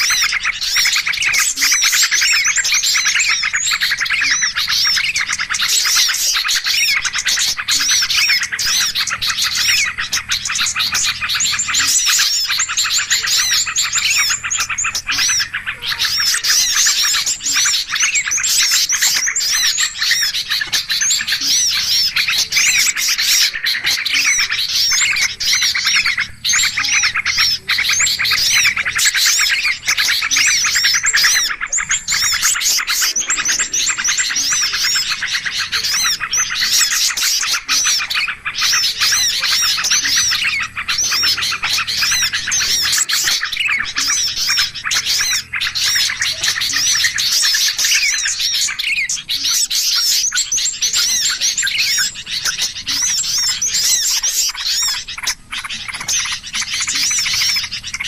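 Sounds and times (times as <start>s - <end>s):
flock of small birds chirping: 0.0s - 58.0s.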